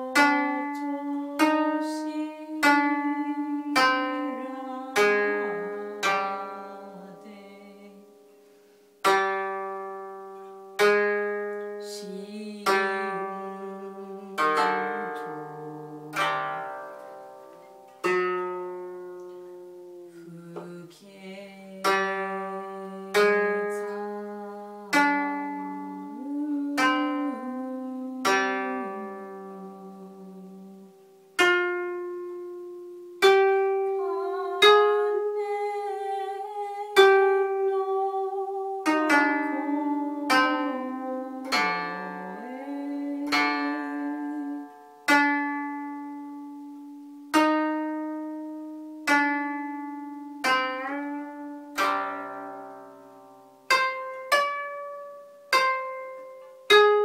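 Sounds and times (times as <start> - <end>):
plucked zither notes: 0.0 - 57.0.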